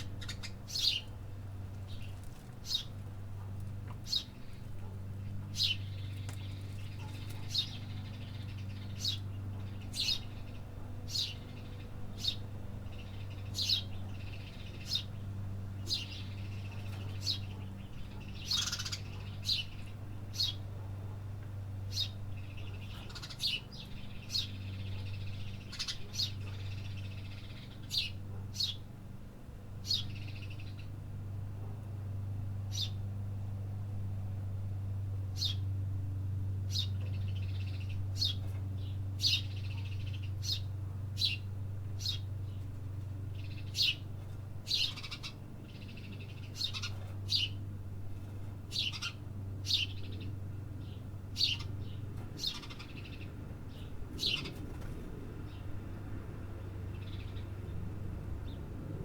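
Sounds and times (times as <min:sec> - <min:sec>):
birds chirping: 0:00.0 - 0:29.0, 0:29.6 - 0:33.3, 0:35.2 - 0:35.8, 0:36.4 - 0:58.7
steady low hum: 0:00.0 - 0:59.0.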